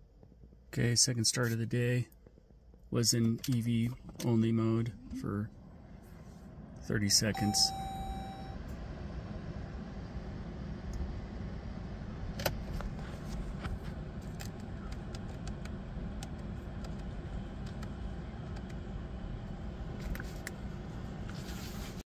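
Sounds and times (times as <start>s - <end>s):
car cabin low rumble: 0.0s - 22.0s.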